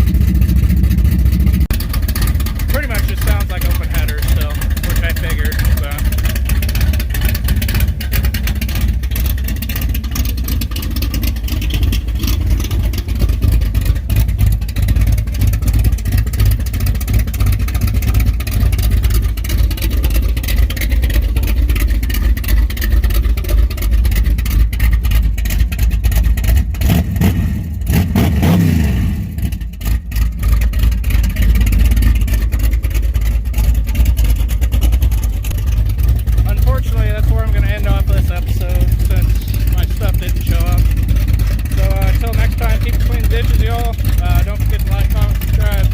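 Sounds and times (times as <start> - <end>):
engine revving: 0.0 - 45.9
loud engine idling choppily: 0.0 - 45.9.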